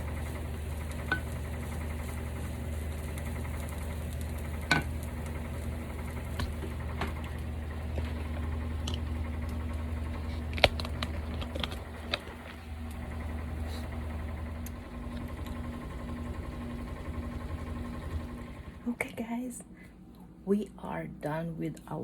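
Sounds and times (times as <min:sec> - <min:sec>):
kitchen appliance humming: 0:00.0 - 0:19.1.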